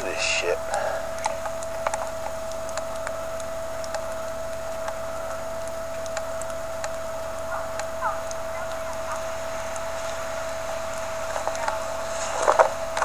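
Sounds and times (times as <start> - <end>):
electrical hum: 0.0 - 13.0
small birds clicking and chirping: 0.0 - 13.0.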